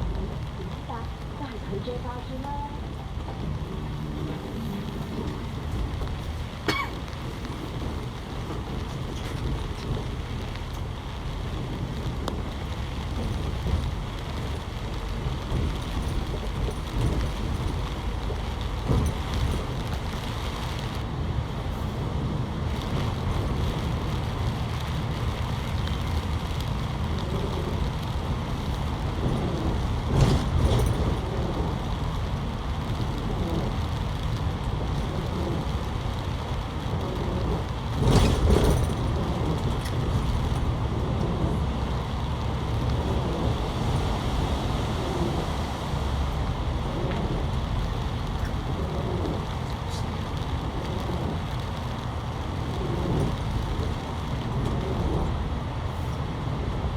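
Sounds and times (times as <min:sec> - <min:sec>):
bus engine and road noise: 0:00.0 - 0:56.9.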